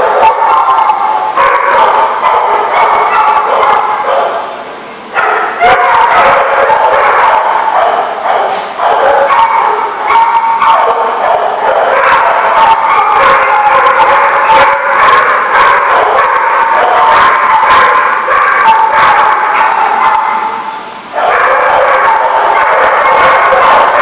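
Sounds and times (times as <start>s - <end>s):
dogs barking and yipping: 0.0s - 4.6s, 5.2s - 24.0s.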